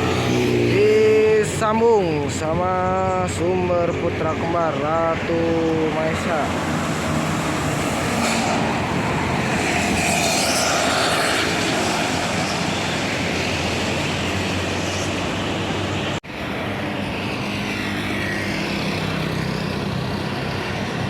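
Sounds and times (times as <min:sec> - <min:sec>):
bus engine drone: 0:00.0 - 0:21.0
road and wind noise: 0:00.0 - 0:21.0.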